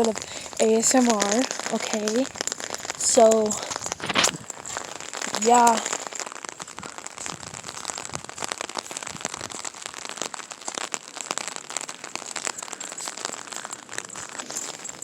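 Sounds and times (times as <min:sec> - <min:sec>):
rain pattering on an umbrella: 0:00.0 - 0:15.0.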